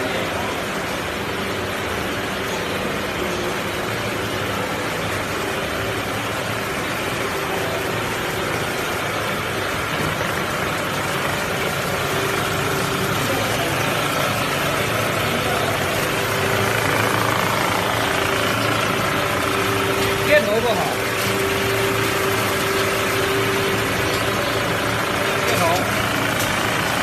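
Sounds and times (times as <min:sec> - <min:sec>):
production line machinery running: 0:00.0 - 0:27.0
steady machine tones: 0:00.0 - 0:27.0.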